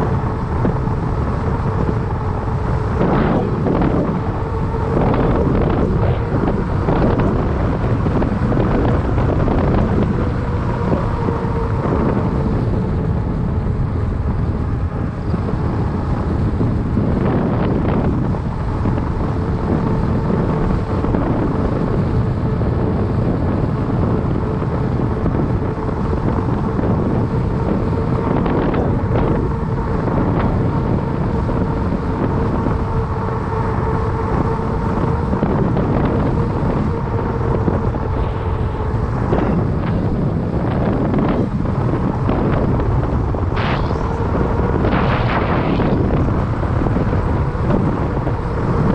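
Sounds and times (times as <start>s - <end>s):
steady hum: 0.0s - 48.9s
wind rumbling on microphone: 0.0s - 48.9s.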